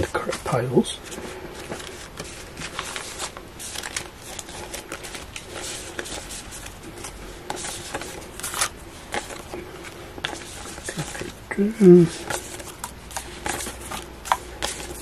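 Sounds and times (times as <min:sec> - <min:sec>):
banknotes rustling and crinkling: 0:00.0 - 0:15.0.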